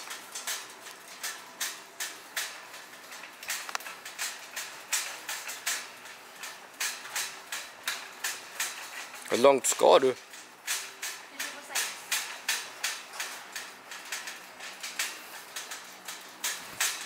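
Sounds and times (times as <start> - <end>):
metal trolley rattling: 0.0 - 17.0.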